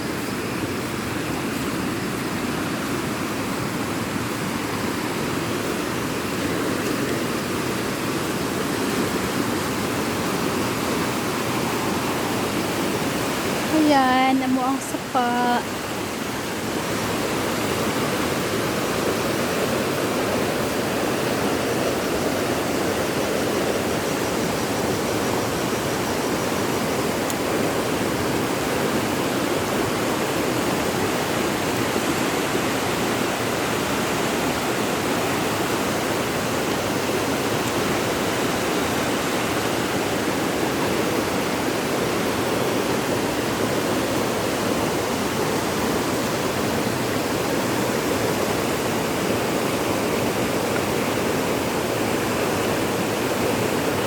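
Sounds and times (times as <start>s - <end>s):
floodwater rushing down creek: 0.0s - 54.0s.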